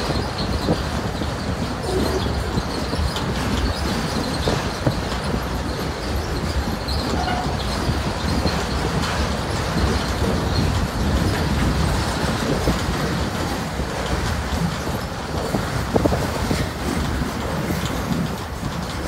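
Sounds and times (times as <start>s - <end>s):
freight train rumbling on bridge: 0.0s - 19.0s
wheels and couplers clanking: 0.0s - 19.0s.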